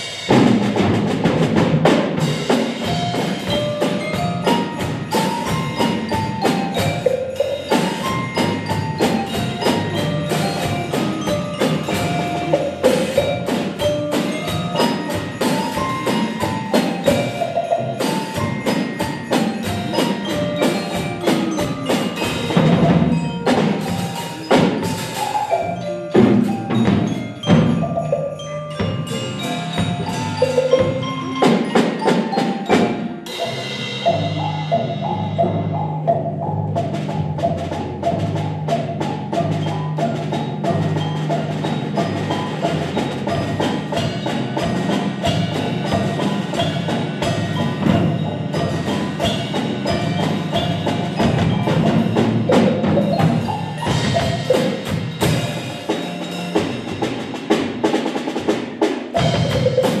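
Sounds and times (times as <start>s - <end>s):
drum kit: 0.0s - 60.0s
mallet percussion ensemble playing: 0.0s - 60.0s.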